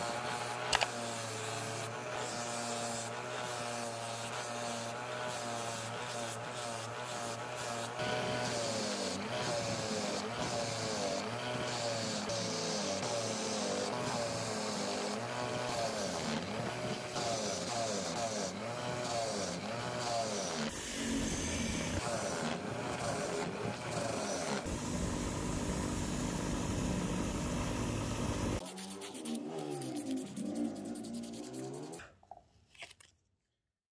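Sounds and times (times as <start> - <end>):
bench grinder grinding metal: 0.0 - 32.0.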